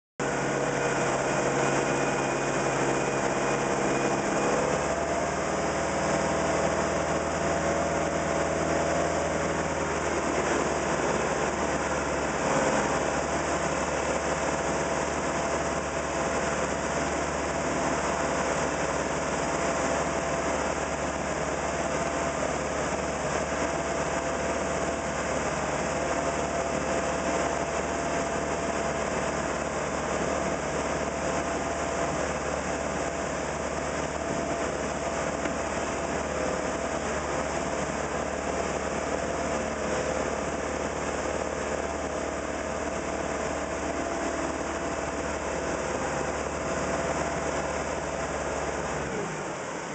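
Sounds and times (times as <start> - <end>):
churning water and wake: 0.2 - 49.9
speedboat engine running: 0.2 - 49.9.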